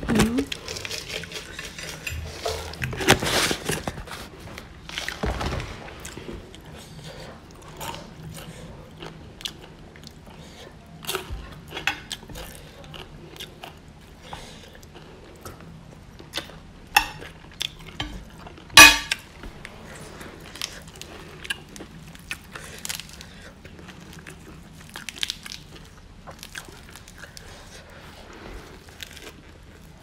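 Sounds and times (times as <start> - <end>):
chewing crispy food: 0.5 - 4.3, 6.0 - 18.7, 19.6 - 30.0.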